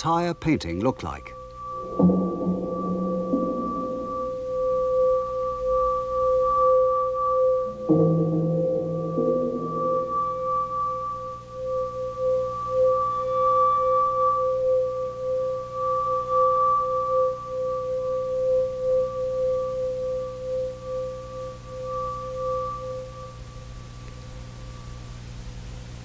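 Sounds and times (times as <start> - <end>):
sustained ringing tone: 0.0 - 25.1.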